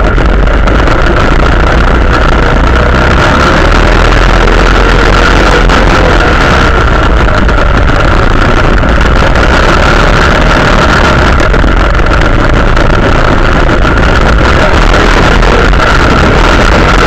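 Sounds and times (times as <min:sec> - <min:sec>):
quad bike engine running: 0:00.0 - 0:17.0
wind on microphone: 0:00.0 - 0:17.0.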